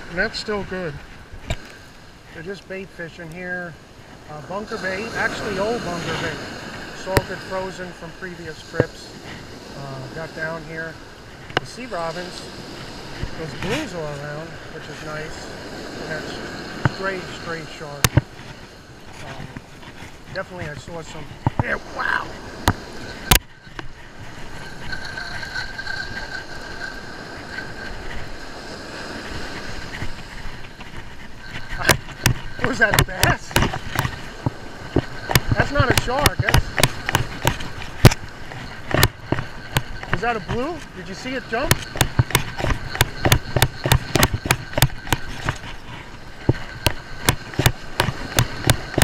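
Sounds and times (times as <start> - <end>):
surf: 0.0 - 49.0
wind: 0.0 - 49.0.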